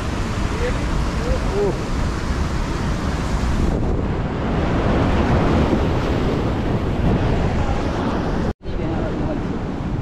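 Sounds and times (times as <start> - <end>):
sea waves washing in: 0.0 - 10.0
wind buffeting microphone: 0.0 - 10.0.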